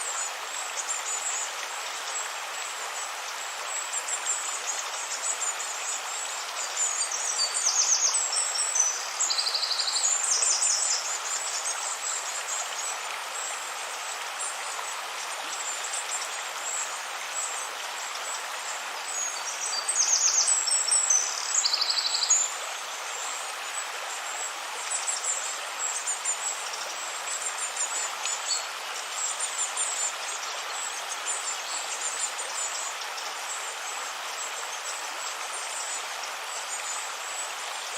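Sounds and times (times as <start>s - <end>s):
river flowing: 0.0s - 37.9s.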